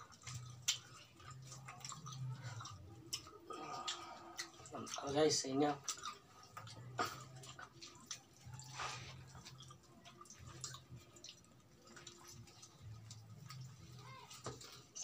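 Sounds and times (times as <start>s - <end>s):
wet chewing and lip-smacking: 0.0s - 15.0s.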